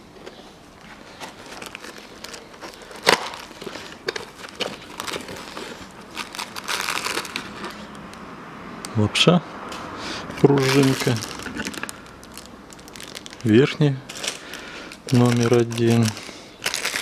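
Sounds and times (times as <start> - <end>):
packaging crinkling and rustling: 0.3 - 8.1, 10.4 - 17.0.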